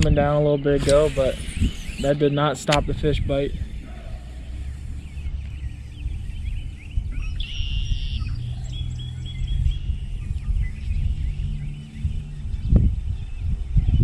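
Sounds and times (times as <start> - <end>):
birds chirping and singing: 0.0 - 14.0
steady low rumble: 0.0 - 14.0
buzzy bird trill: 0.5 - 13.9.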